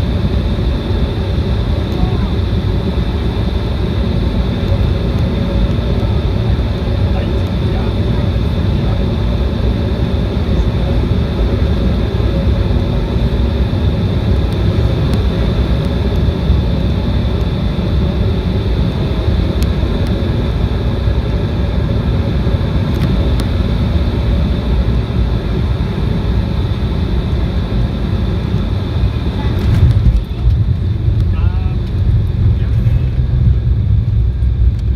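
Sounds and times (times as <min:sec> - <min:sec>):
high turbofan whine: 0:00.0 - 0:34.9
jet engine and airflow rush: 0:00.0 - 0:34.9.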